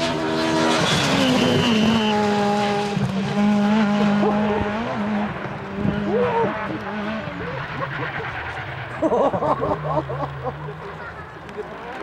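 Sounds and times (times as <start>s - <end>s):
rally car engine high-revving: 0.0s - 10.9s.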